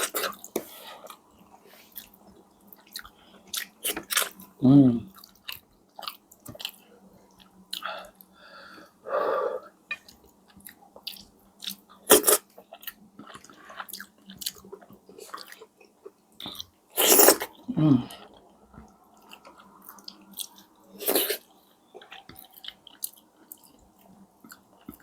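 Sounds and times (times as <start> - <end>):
chewing with wet clicks: 0.3 - 4.5, 5.1 - 8.3, 9.9 - 16.8, 18.1 - 21.0, 21.8 - 25.0.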